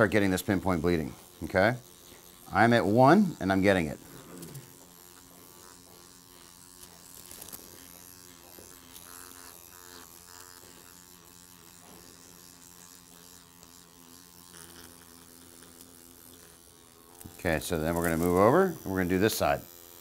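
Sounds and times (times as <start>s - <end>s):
electric pen buzzing faintly: 0.0s - 20.0s.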